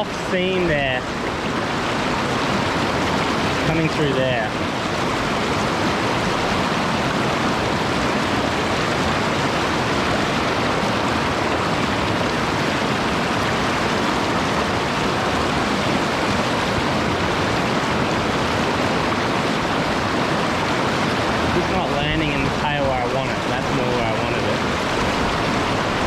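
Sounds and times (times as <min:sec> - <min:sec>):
mountain stream flowing: 0:00.0 - 0:26.0.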